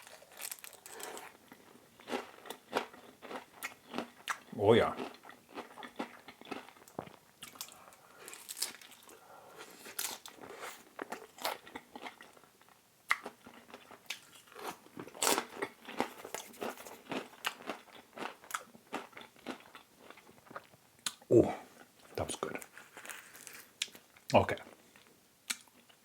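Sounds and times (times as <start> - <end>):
chewing crisp food: 0.0 - 26.0.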